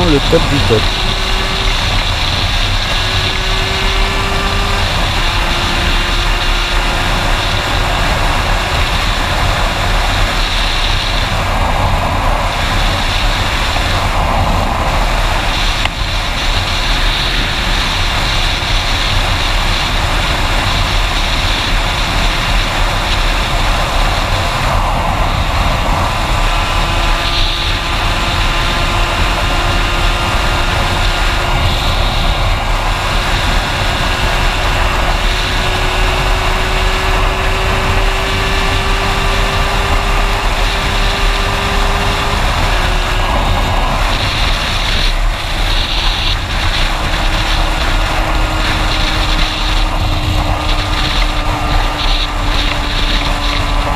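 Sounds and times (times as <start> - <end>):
two-stroke engine droning: 0.0 - 53.9
wind noise on microphone: 0.0 - 53.9.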